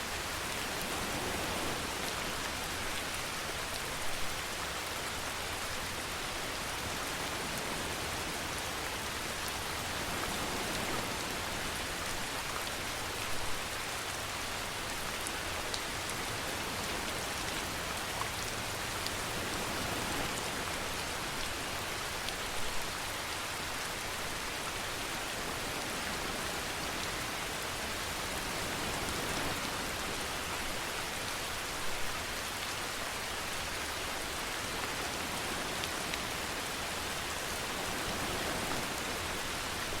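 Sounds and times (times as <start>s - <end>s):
rain pattering on surfaces: 0.1s - 40.0s.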